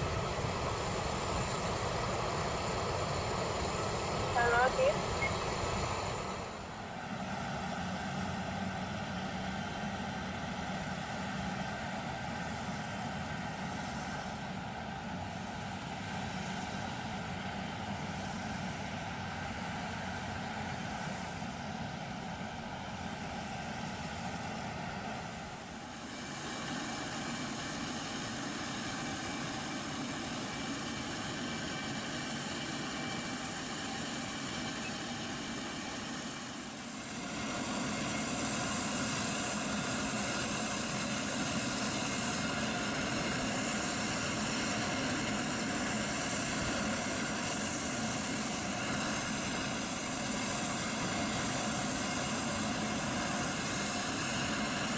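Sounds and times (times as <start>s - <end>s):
engine hum with high whine: 0.0s - 54.9s
jet engines running at low power: 0.0s - 54.9s.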